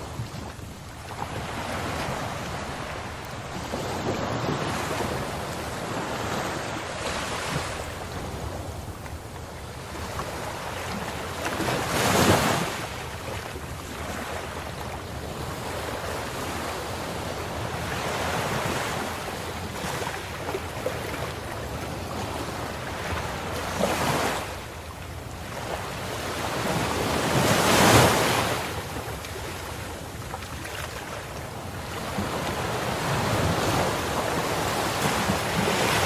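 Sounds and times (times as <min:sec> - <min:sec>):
ocean waves breaking on shore: 0:00.0 - 0:36.0.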